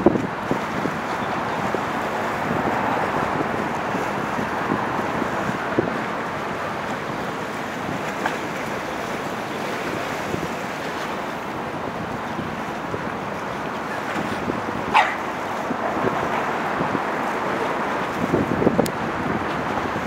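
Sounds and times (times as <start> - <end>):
harbour water: 0.0 - 20.0
wind buffeting microphone: 0.0 - 20.0.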